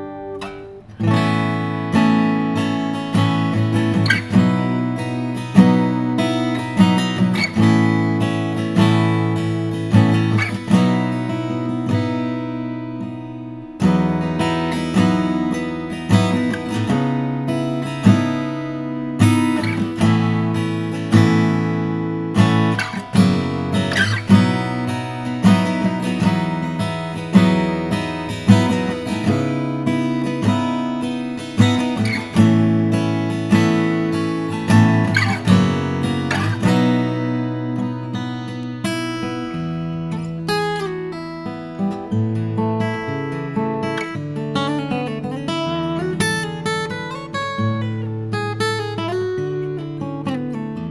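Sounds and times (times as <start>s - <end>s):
acoustic guitar strummed with pick: 0.0s - 50.9s.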